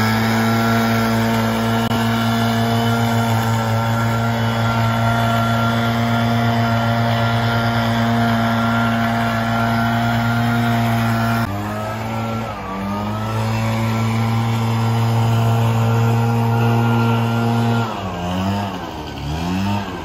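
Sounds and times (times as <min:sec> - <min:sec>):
leaf blower engine running: 0:00.0 - 0:20.0.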